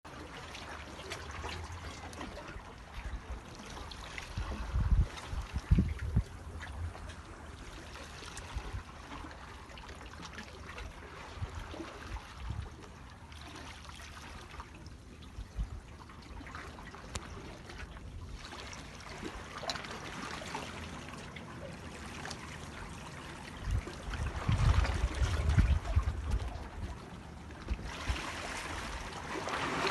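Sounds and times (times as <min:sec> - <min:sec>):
small splashes: 0:00.1 - 0:29.9
water trickling and lapping: 0:00.1 - 0:29.9.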